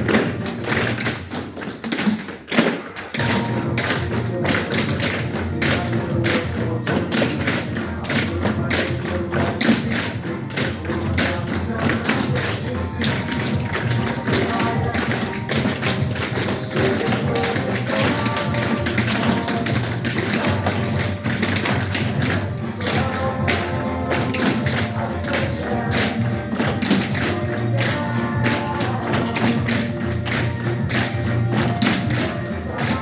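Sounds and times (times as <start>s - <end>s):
pop song with steady beat: 0.0s - 33.0s
tap shoes clicking on floor: 0.0s - 33.0s.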